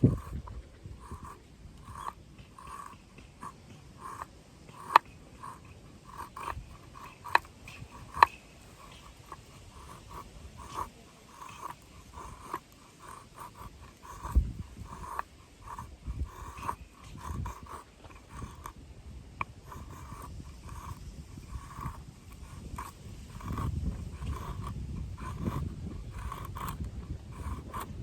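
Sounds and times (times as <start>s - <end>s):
blade scraping wood: 0.0s - 28.0s.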